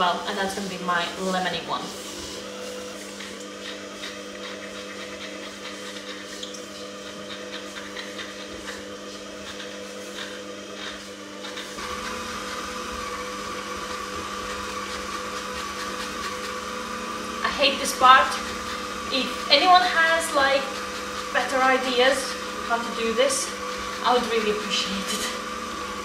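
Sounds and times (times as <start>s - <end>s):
mixer high whine: 0.0s - 26.0s
stand mixer motor hum: 0.0s - 26.0s
zester rasping strokes: 0.2s - 26.0s.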